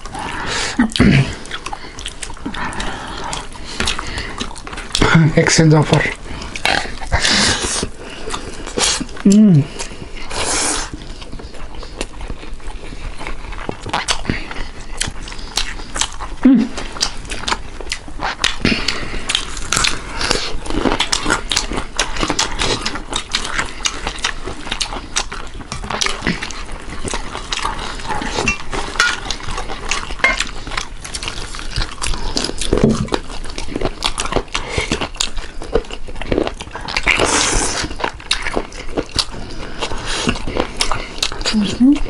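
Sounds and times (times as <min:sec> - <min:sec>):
wet chewing and lip-smacking: 0:00.0 - 0:42.0.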